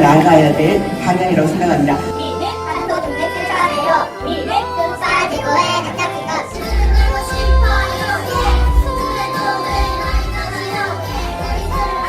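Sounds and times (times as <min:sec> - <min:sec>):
music with children singing: 0:00.0 - 0:12.0.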